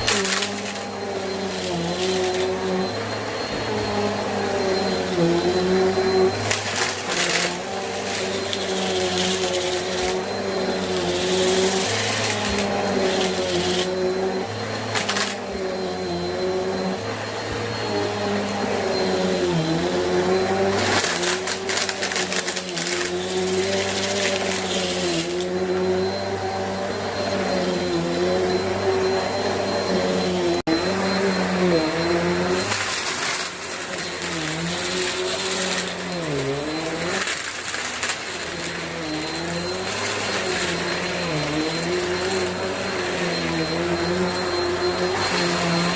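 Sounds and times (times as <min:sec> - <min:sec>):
vacuum cleaner motor hum: 0:00.0 - 0:45.9.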